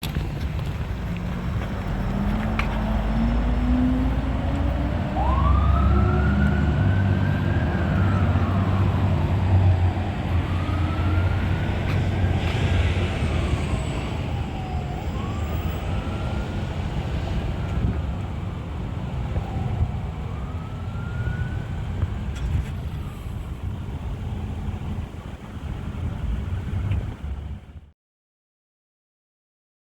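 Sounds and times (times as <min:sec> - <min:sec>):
truck engine rumble: 0:00.0 - 0:27.9
fire engine siren wailing: 0:01.5 - 0:27.6.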